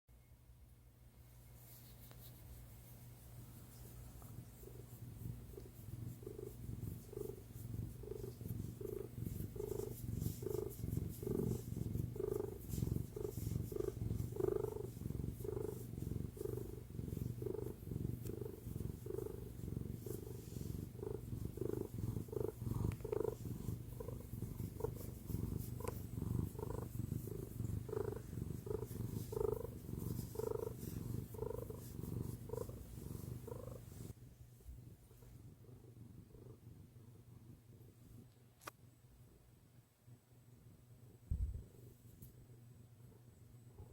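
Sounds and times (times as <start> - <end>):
cat purring: 1.7 - 38.4.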